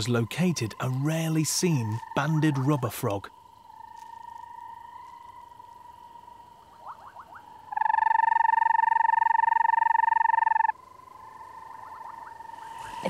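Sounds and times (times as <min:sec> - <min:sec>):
frog trill: 0:00.4 - 0:05.6, 0:06.7 - 0:12.7.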